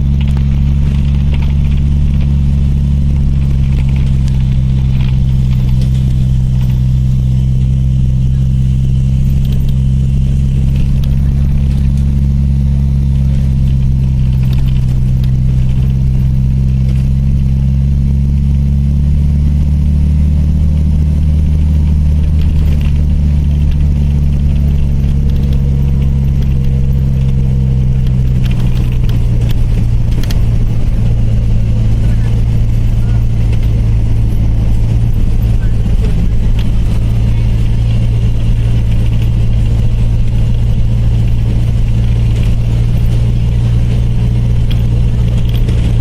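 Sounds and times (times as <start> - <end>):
bus engine droning: 0.0 - 46.0
light rattles: 0.0 - 46.0.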